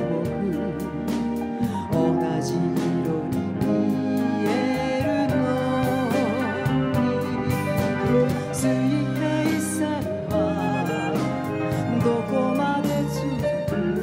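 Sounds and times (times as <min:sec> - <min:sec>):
bass notes: 0:00.0 - 0:14.0
woman singing with vibrato: 0:01.7 - 0:14.0.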